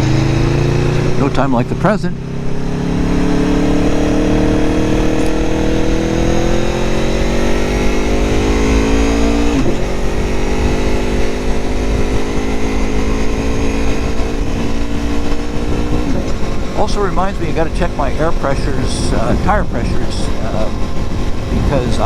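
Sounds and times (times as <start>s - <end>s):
motorcycle engine accelerating: 0.0s - 22.0s
wind rumble on microphone: 2.4s - 22.0s.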